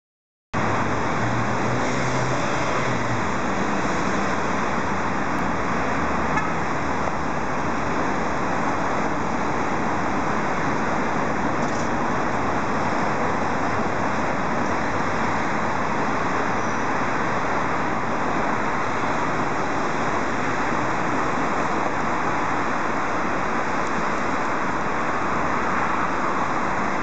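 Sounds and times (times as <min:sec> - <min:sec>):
street traffic noise: 0:00.6 - 0:27.0
vehicle engine hum: 0:00.6 - 0:27.0.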